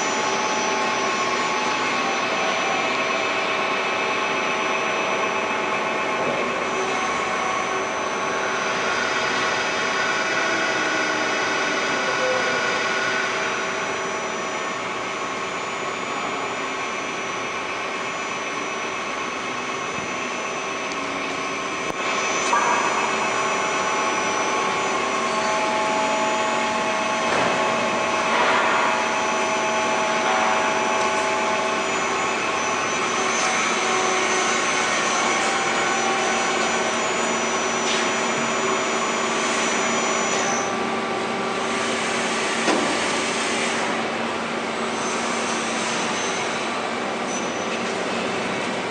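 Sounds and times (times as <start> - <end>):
boring mill machine noise: 0.0 - 48.9
machine whining tones: 0.0 - 48.9.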